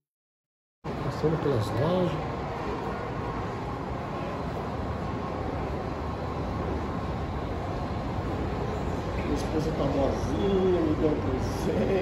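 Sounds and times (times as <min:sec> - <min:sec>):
low rumbling mall ambience: 0:00.8 - 0:12.0.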